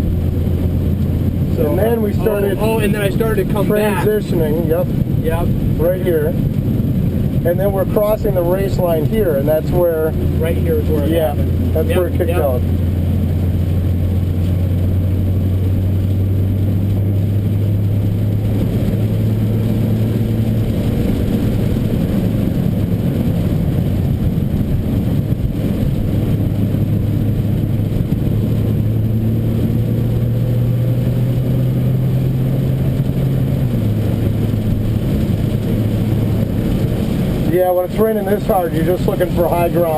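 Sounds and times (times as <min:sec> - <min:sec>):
car engine from inside cabin: 0:00.0 - 0:39.9.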